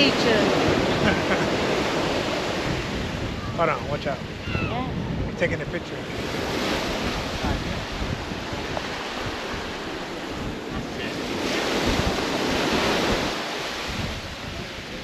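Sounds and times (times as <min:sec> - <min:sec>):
ocean surf washing in: 0:00.0 - 0:15.0
wind buffeting microphone: 0:00.0 - 0:15.0.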